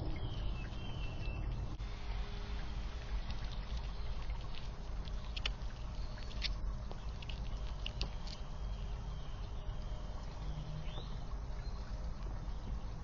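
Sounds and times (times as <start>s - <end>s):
low rumble of microphone: 0.0s - 13.0s.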